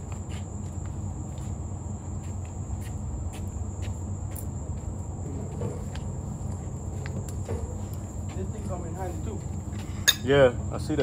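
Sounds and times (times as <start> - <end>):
crickets trilling: 0.0 - 11.0
low steady hum: 0.0 - 11.0.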